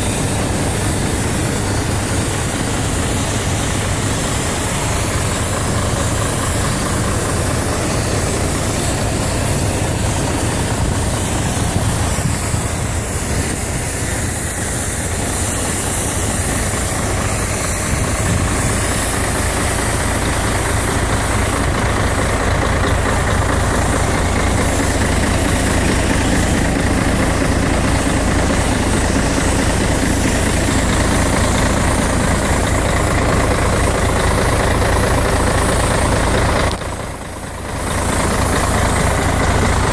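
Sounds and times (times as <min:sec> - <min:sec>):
diesel truck idling: 0:00.0 - 0:39.9.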